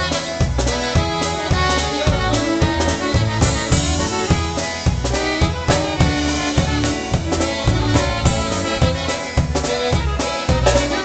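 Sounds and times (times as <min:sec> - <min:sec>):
polka band playing: 0:00.0 - 0:11.0.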